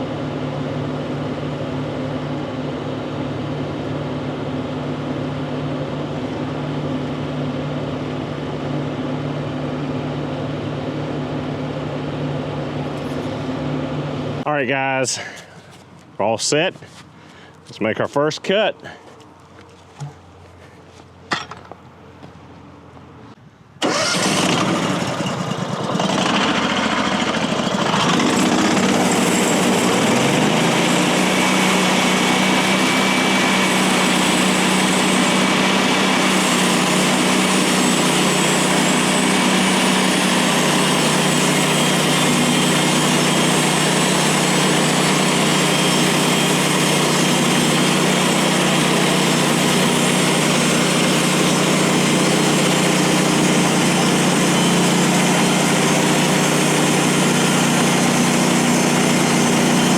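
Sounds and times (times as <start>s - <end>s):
sawmill gas engine running: 0.0s - 19.2s, 23.8s - 59.9s.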